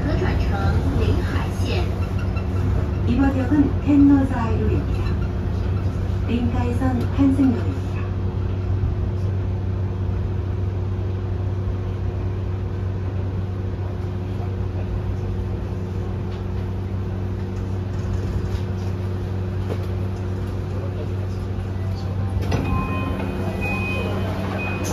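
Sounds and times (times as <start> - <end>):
monorail car running: 0.0 - 24.9.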